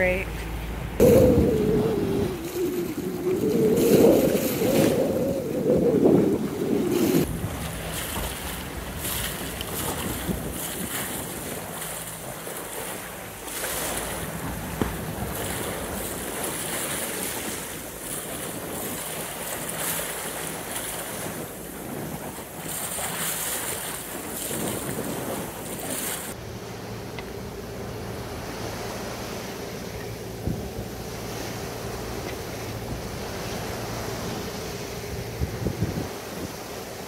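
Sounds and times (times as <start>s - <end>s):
water splashing along a hull: 0.0s - 37.0s
wind buffeting microphone: 0.8s - 26.4s, 29.2s - 37.0s.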